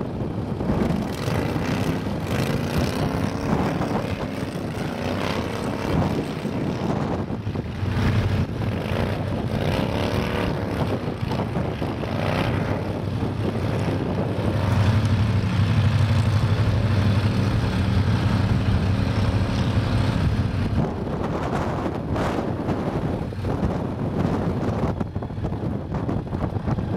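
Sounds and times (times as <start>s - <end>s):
outboard motor running hard: 0.0s - 26.9s.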